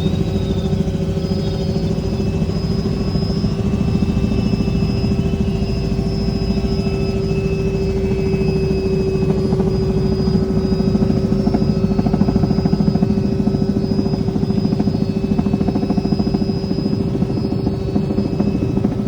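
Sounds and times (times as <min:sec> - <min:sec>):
helicopter engine whine: 0:00.0 - 0:19.0
helicopter rotor chop: 0:00.0 - 0:19.0.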